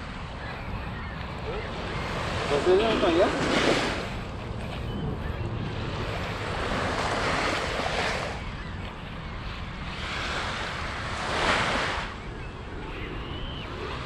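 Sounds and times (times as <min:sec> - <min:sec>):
waves washing on sand beach: 0:00.0 - 0:14.0
wind rumble on microphone: 0:00.0 - 0:14.0.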